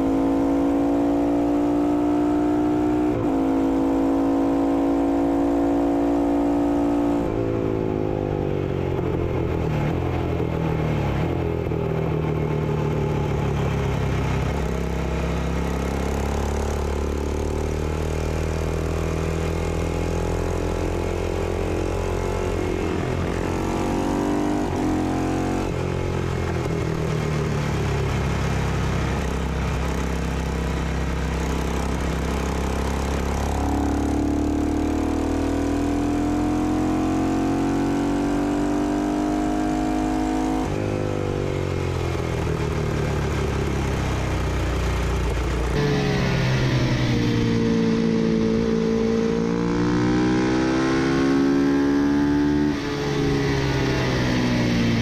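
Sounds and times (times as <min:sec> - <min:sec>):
racing motorcycle engine: 0:00.0 - 0:55.0.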